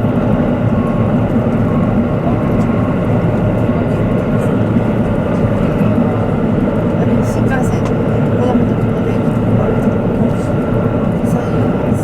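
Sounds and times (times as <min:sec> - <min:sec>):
train engine drone: 0:00.0 - 0:12.0.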